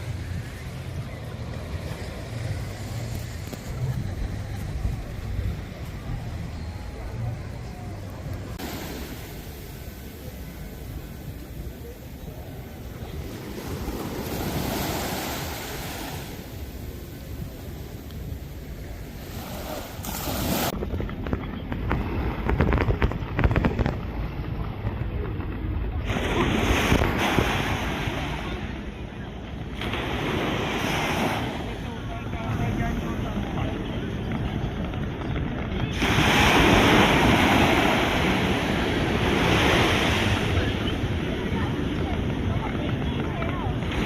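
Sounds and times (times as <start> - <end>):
surf washing on beach: 0.0 - 25.2, 25.9 - 44.0
wind buffeting microphone: 0.0 - 30.2, 31.6 - 44.0.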